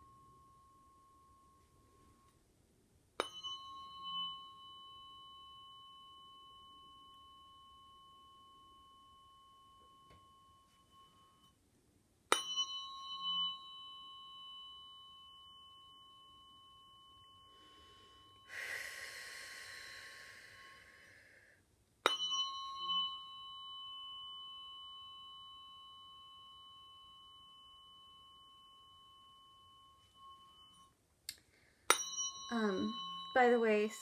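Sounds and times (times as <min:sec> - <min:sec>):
tuning fork ringing: 0:00.0 - 0:02.5, 0:03.2 - 0:11.6, 0:12.3 - 0:34.0.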